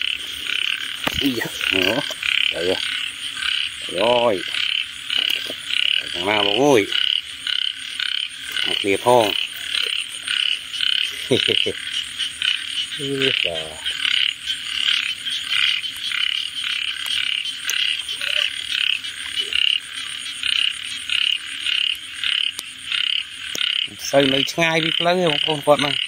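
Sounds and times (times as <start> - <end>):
frogs croaking: 0.0 - 26.0.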